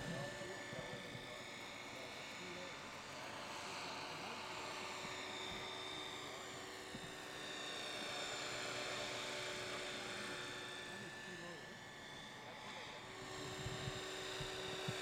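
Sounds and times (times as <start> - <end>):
model helicopter motor whine: 0.0 - 15.0.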